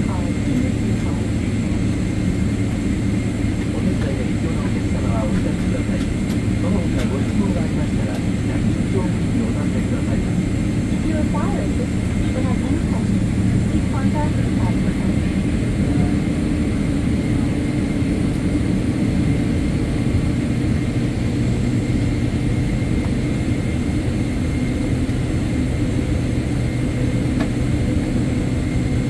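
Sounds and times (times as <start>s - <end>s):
aircraft cabin low rumble: 0.0s - 29.0s
faint whining jet engine tones: 0.0s - 29.0s.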